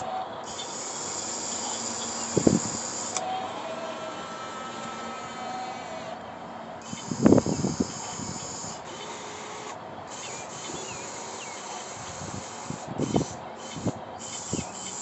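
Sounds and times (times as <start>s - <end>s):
high motor whine: 0.0s - 15.0s.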